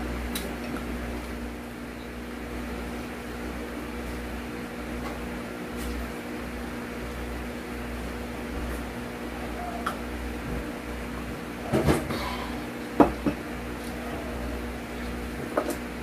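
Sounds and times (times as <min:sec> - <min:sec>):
electric appliance hum: 0:00.0 - 0:16.0.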